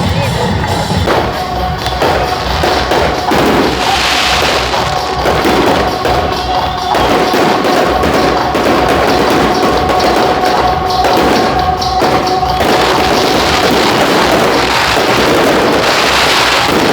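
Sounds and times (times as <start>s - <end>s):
fireworks thudding: 0.0s - 16.9s
loud music: 0.0s - 16.9s.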